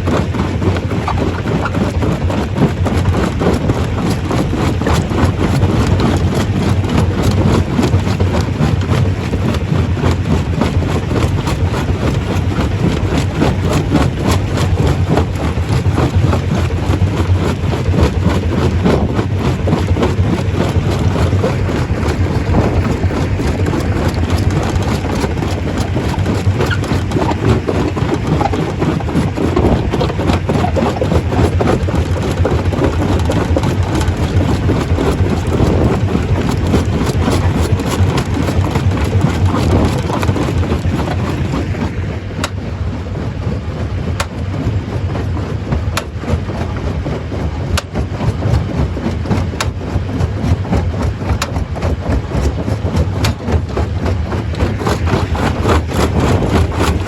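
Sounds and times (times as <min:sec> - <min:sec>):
stone crusher droning: 0:00.0 - 0:42.6, 0:44.0 - 0:57.0
rock rattling and clattering: 0:00.0 - 0:57.0.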